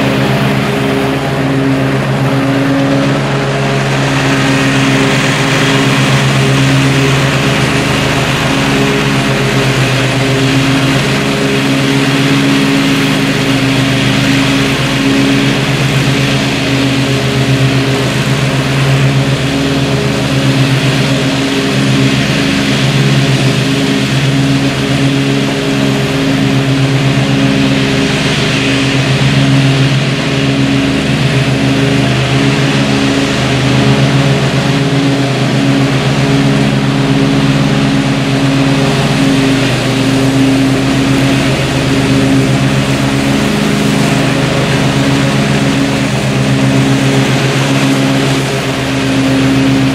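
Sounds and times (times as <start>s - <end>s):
riding mower engine cutting grass: 0.0s - 49.9s.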